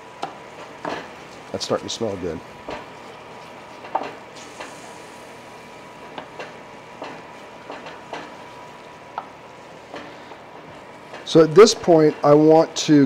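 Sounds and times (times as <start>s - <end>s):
gravy sizzling: 0.0s - 13.0s.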